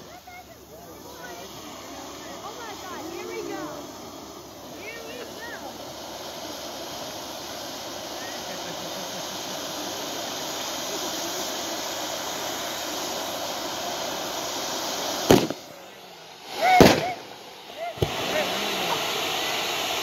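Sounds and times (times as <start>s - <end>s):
fountain fireworks hissing: 0.0s - 20.0s.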